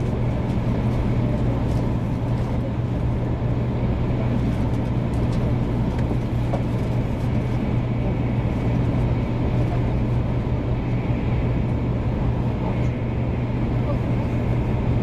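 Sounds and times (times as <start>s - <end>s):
low even hum: 0.0s - 15.0s
train cabin rumble: 0.0s - 15.0s.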